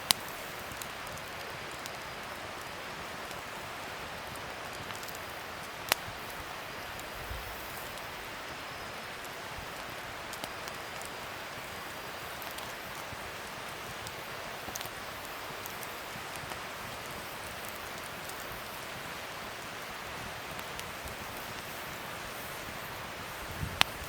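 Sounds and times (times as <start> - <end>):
fire crackles and pops: 0.0 - 24.0
wood fire hissing: 0.0 - 24.0.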